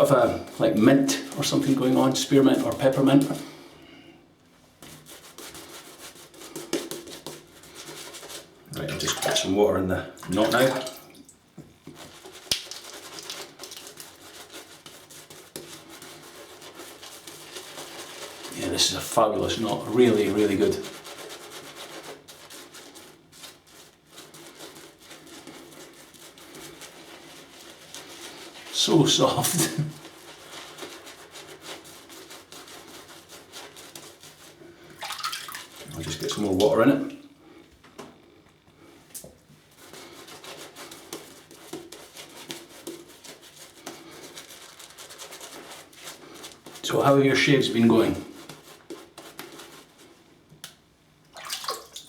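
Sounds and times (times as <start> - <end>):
shaving brush lathering on face: 0.0 - 3.6, 4.8 - 11.2, 11.8 - 37.2, 39.5 - 52.0.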